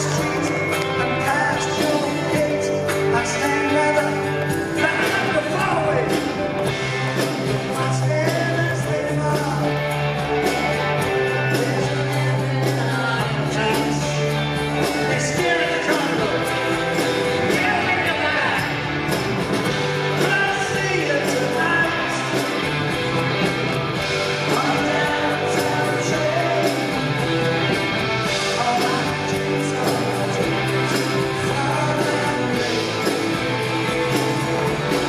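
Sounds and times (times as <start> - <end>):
lead singer singing: 0.0 - 19.0, 19.6 - 35.0
live band playing: 0.0 - 35.0.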